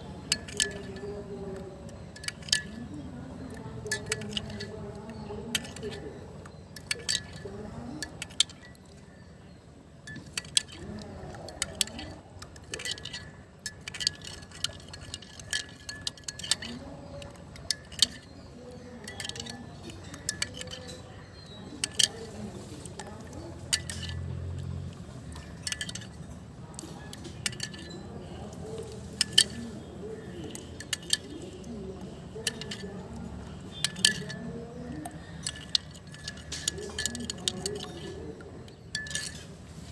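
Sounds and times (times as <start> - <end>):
utensils clinking on cookware: 0.0 - 39.9.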